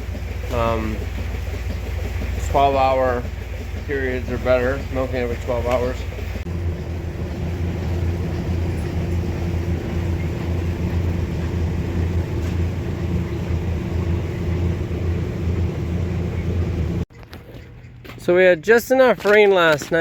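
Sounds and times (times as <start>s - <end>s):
machine humming: 0.0s - 17.1s.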